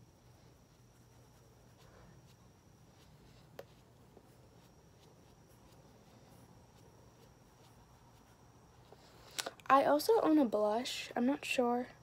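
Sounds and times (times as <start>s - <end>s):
faint high whine: 0.0s - 12.0s
low steady hum: 0.0s - 12.0s.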